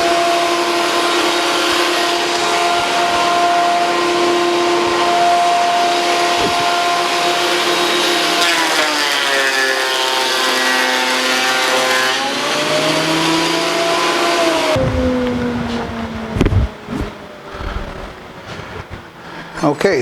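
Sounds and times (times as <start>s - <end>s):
thickness planer cutting board: 0.0s - 18.7s.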